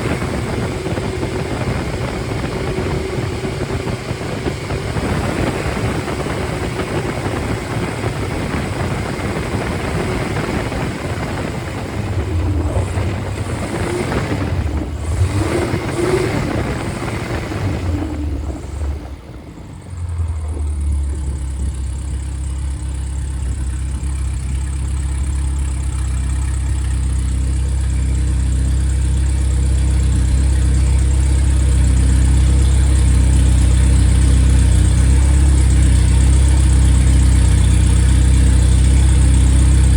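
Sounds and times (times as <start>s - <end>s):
car engine running then idling: 0.0s - 39.9s.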